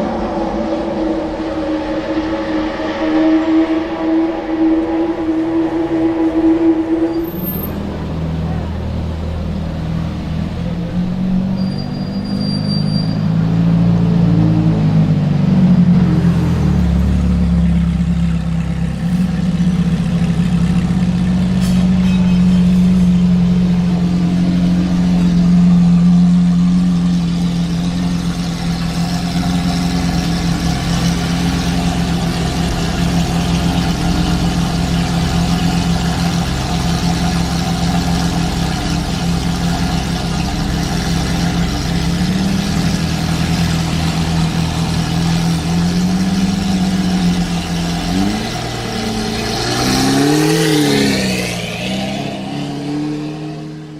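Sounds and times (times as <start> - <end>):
car engine revving and idling: 0.0 - 53.9.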